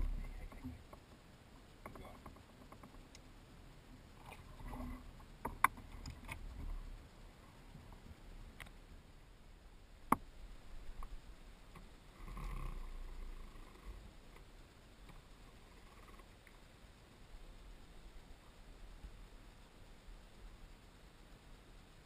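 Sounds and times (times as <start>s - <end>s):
soft rustle: 0.0s - 22.0s.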